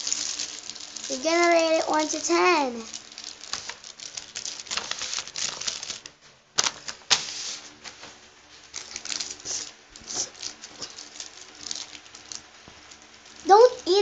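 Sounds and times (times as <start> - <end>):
plastic wrapper crinkling: 0.0 - 14.0.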